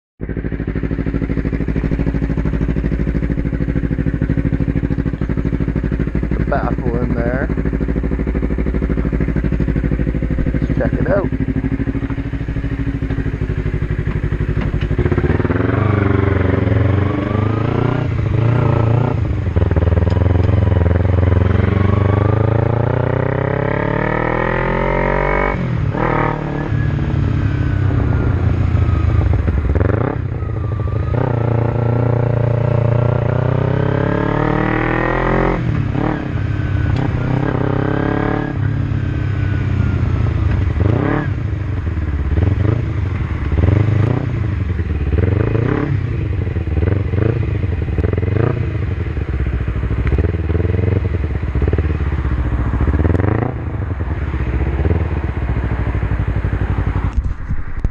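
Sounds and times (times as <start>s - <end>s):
motorcycle engine revving: 0.2s - 57.9s.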